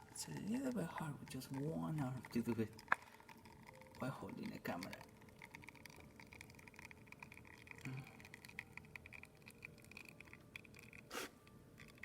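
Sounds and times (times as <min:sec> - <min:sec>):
espresso flowing crackle: 0:00.0 - 0:12.0.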